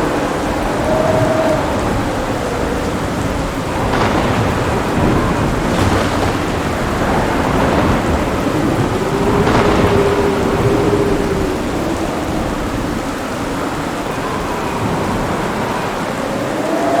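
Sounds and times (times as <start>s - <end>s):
heavy rain: 0.0s - 17.0s
thunder rumbling: 0.0s - 17.0s.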